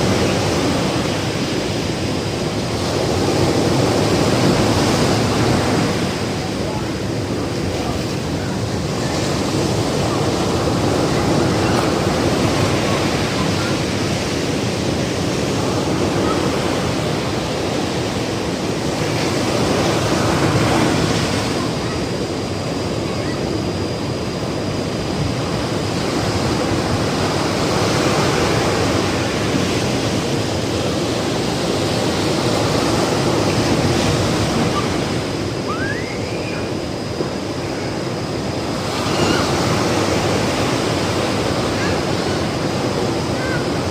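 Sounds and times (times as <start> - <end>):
ocean surf breaking on beach: 0.0 - 43.9.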